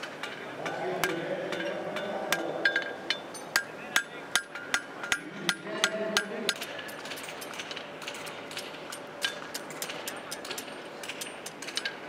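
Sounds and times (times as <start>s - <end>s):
hammers ringing on anvils: 0.2s - 12.0s.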